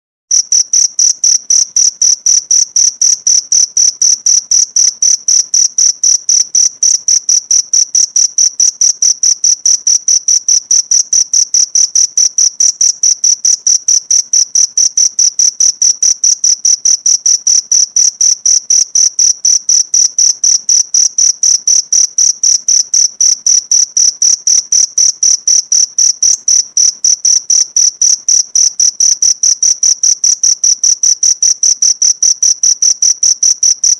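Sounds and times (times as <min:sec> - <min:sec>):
cricket chirping: 0:00.3 - 0:33.9.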